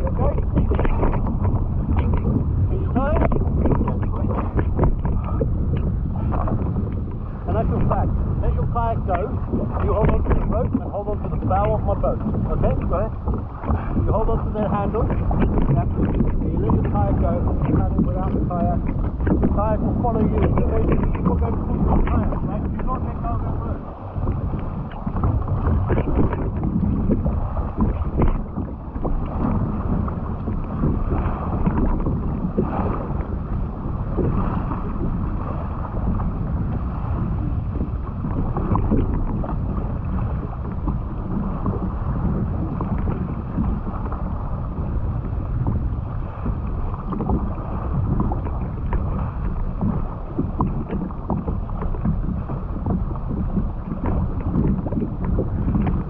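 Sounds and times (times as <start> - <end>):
sea water sloshing and splashing: 0.0 - 56.0
wind buffeting microphone: 0.0 - 56.0.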